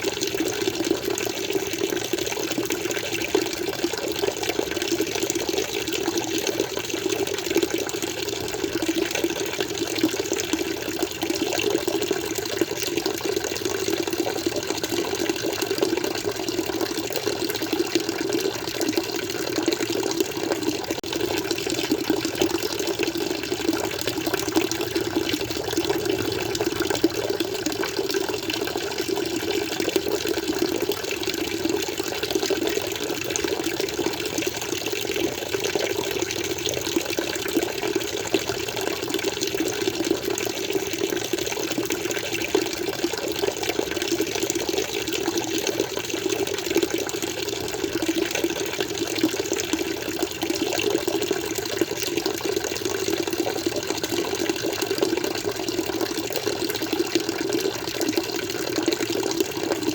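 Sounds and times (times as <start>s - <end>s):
water flowing: 0.0s - 59.9s.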